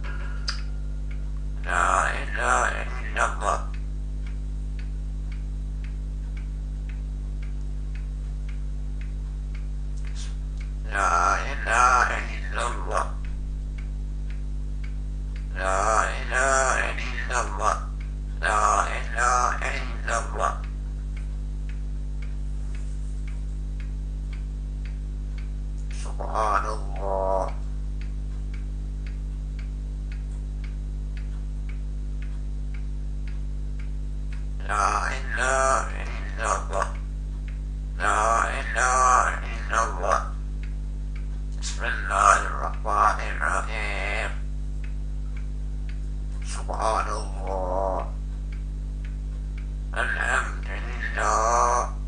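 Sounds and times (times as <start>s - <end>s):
clock ticking: 0.0s - 52.0s
low electrical hum: 0.0s - 52.0s.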